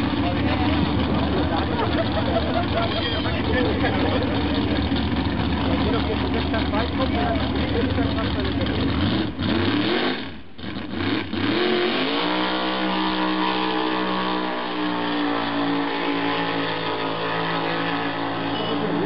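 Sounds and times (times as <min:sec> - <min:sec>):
drag car engine revving: 0:00.0 - 0:19.0.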